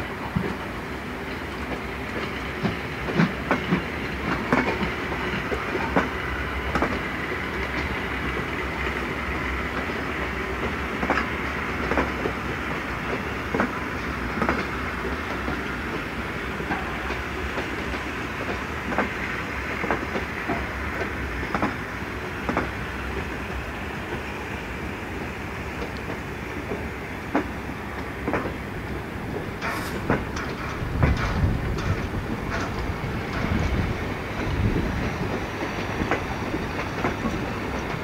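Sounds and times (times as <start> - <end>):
train rumbling past: 0.0 - 38.0
wheels clacking over rail joints: 1.3 - 23.4, 25.2 - 38.0.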